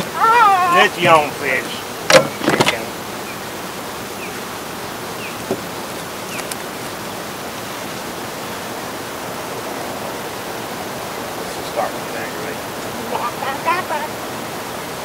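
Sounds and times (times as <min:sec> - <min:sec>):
wind and water rushing: 0:00.0 - 0:15.0.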